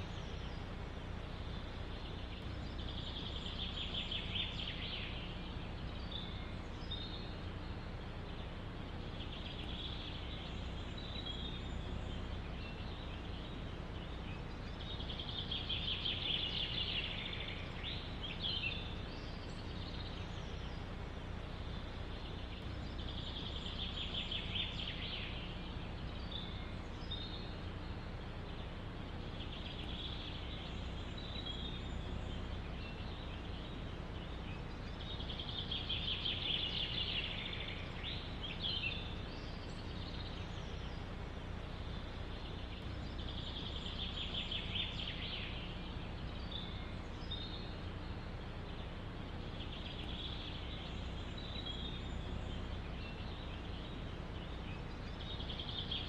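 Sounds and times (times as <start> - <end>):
bird chirps: 0.0 - 56.0
low background rumble: 0.0 - 56.0
songbird trilling: 0.0 - 56.0.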